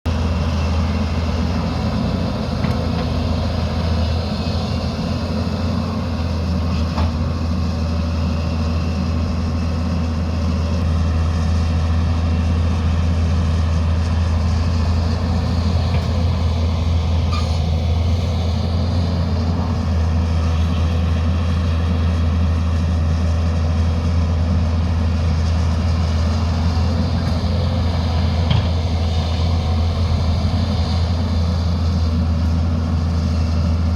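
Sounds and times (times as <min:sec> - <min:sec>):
heavy diesel engine humming: 0:00.1 - 0:33.9.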